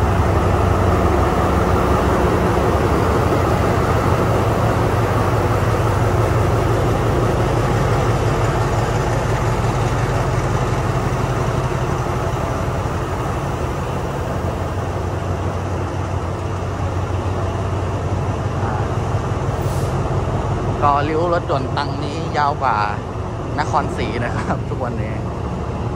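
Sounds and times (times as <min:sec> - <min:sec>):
diesel locomotive engine idling: 0:00.0 - 0:25.9.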